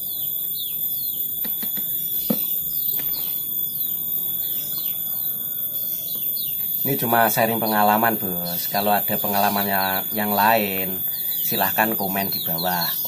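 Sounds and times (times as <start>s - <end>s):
bird chirping: 0.0s - 13.0s
steady high drone: 0.0s - 13.0s.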